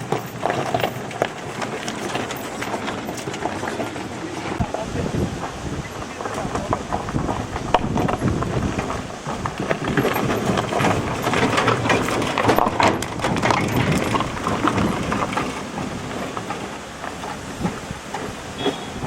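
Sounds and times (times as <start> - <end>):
vehicle rattling on rough road: 0.0 - 19.0.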